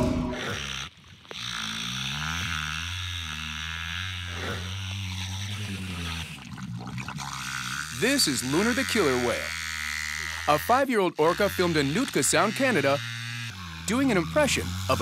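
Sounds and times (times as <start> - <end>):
killer whale engine-like drone: 0.0 - 15.0.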